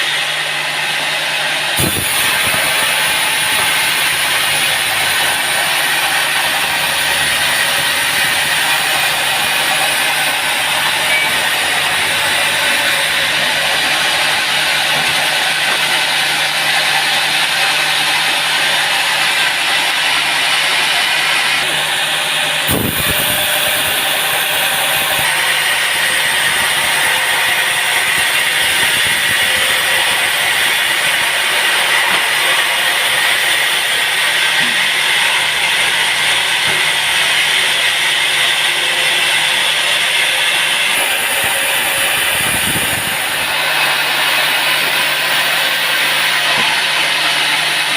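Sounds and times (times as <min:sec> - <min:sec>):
sawmill machinery whirring: 0:00.0 - 0:47.9.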